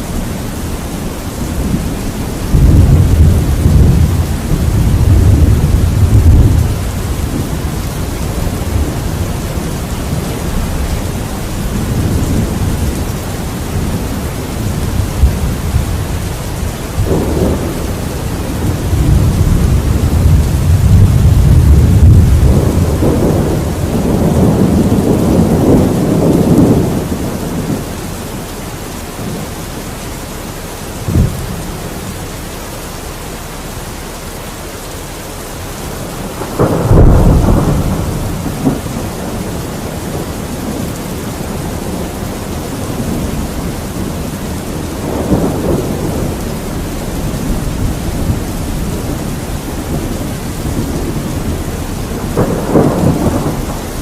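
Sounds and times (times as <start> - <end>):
thunder rumbling and cracking: 0.0 - 33.1, 35.0 - 54.0
rain hiss: 0.0 - 54.0.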